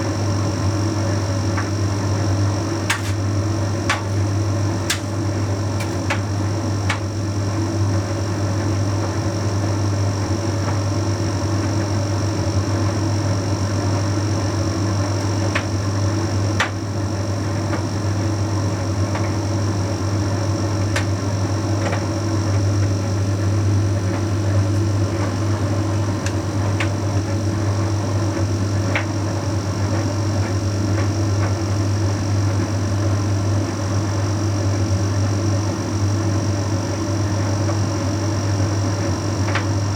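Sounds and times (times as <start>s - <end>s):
tumble dryer low hum: 0.0s - 39.9s.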